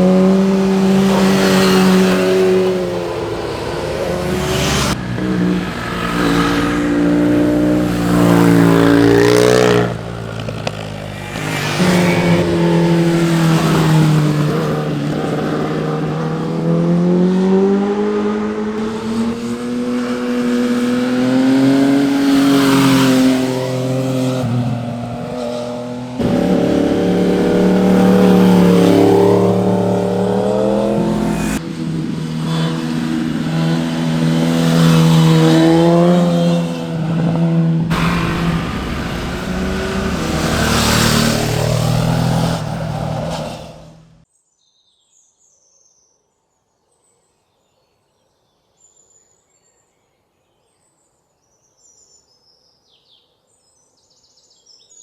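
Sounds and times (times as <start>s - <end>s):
motorcycles passing by: 0.0s - 44.2s.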